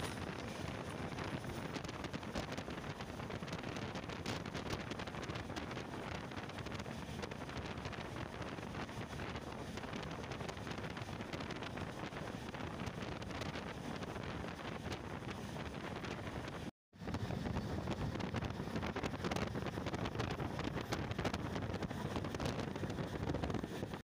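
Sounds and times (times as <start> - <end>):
train running rumble: 0.0 - 24.0
wind rushing over microphone: 0.0 - 24.0.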